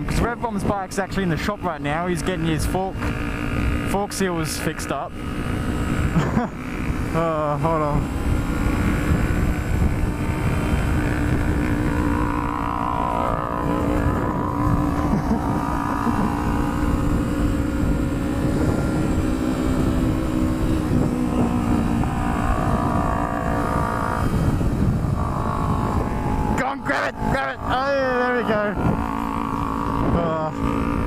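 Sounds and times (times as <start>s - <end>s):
motorcycle engine cruising: 0.0s - 31.0s
wind rumbling on microphone: 0.0s - 31.0s.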